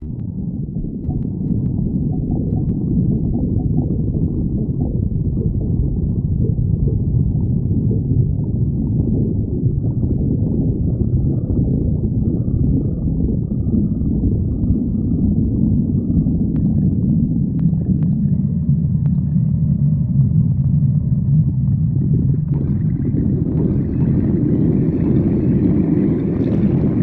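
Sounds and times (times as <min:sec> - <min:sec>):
stomach growling: 0:00.0 - 0:27.0.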